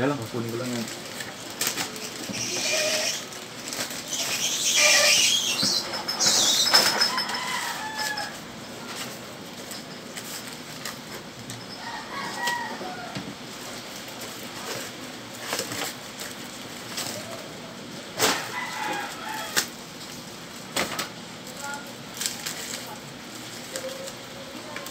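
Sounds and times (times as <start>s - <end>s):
packaging crinkling and tearing: 0.4s - 5.8s, 8.9s - 17.5s, 18.2s - 24.9s.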